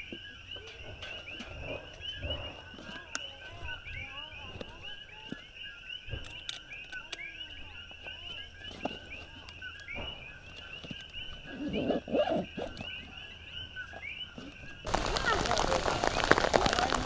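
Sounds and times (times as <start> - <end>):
frogs chirping: 0.0 - 17.0.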